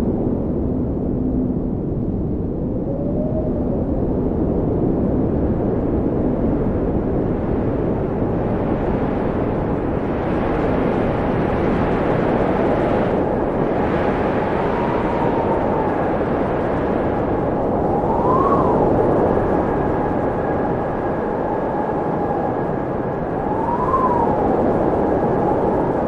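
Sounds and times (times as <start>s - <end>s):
wind blowing hard: 0.0s - 26.0s.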